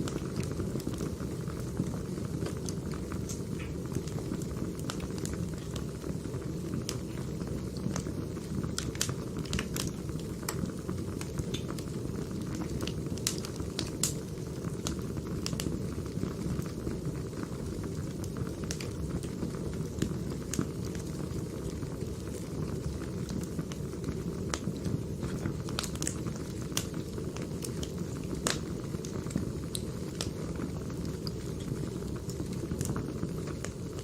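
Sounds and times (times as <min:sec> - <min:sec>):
fire crackles and pops: 0:00.0 - 0:34.0
low rumble of flames: 0:00.0 - 0:34.0.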